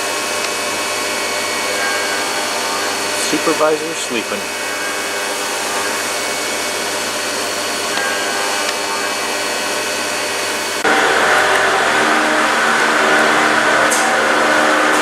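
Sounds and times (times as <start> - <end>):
faint tonal hum: 0.0 - 15.0
whirring machine: 0.0 - 15.0.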